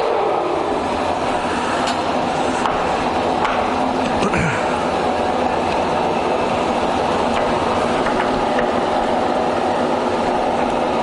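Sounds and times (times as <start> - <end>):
lathe running with gear noise: 0.0 - 11.0.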